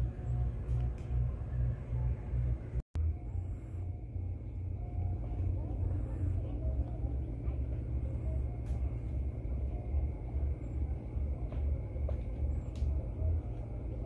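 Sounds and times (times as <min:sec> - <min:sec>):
uneven pulsing low rumble: 0:00.0 - 0:14.0.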